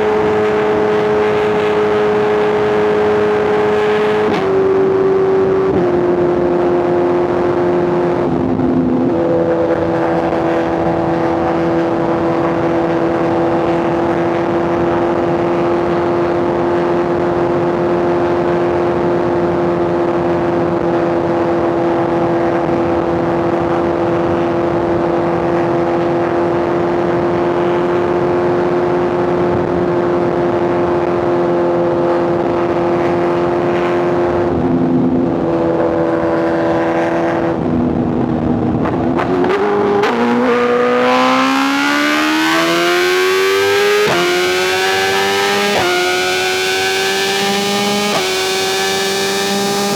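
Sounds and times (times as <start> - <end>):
motorcycle engine at high rpm: 0.0 - 49.9
wind and road noise: 0.0 - 49.9.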